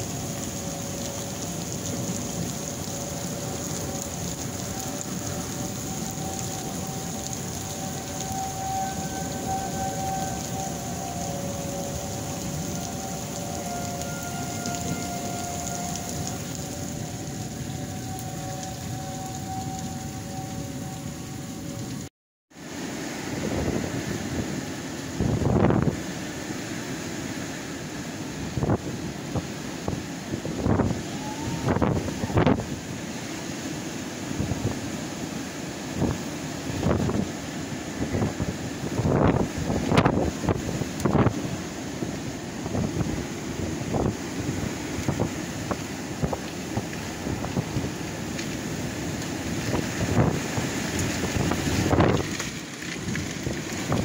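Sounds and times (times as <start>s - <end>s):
warning siren: 0.0s - 22.1s, 22.7s - 54.0s
heavy rain: 0.0s - 54.0s
strong wind: 0.0s - 54.0s.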